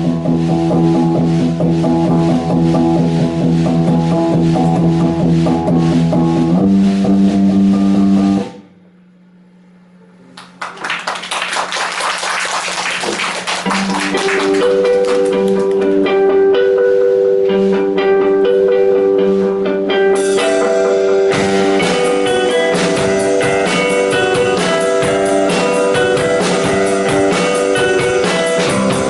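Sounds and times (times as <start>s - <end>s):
live rock band playing: 0.0s - 8.6s, 13.1s - 29.0s.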